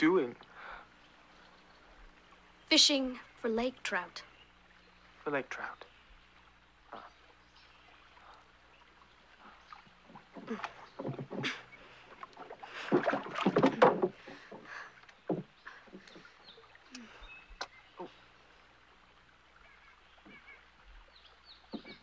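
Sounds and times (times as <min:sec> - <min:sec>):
oars dipping and splashing: 0:00.0 - 0:22.0.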